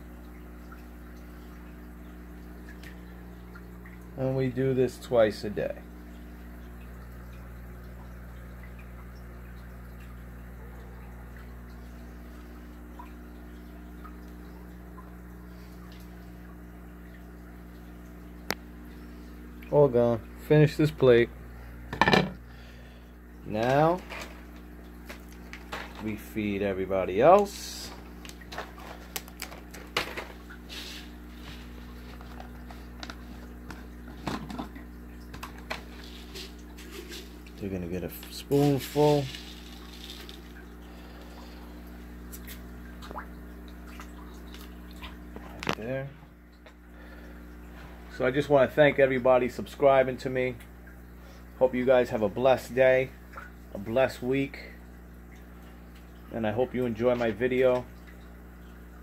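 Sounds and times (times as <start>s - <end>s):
low equipment hum: 0.0s - 59.0s
water trickling and dripping: 0.0s - 59.0s.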